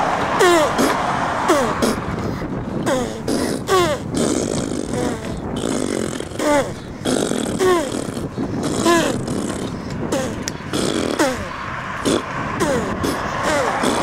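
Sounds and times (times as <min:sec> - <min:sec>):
baby blowing raspberries: 0:00.3 - 0:14.0
baby squealing: 0:00.4 - 0:14.0.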